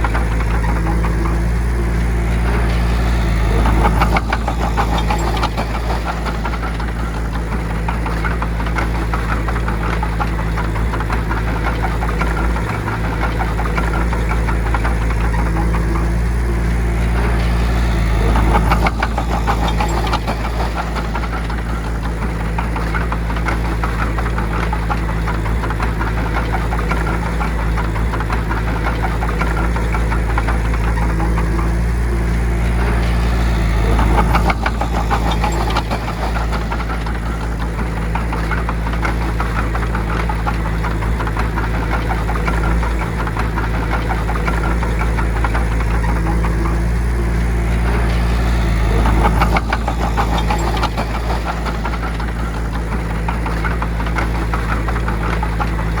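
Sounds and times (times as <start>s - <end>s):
heavy diesel machine engine clattering: 0.0s - 56.0s.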